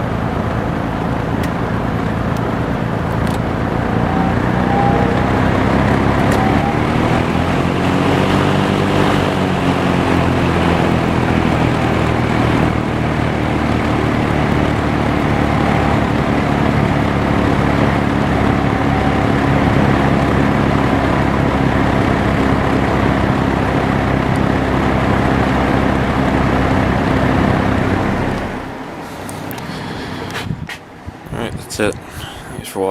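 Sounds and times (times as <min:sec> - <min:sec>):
box fan running: 0:00.0 - 0:32.9.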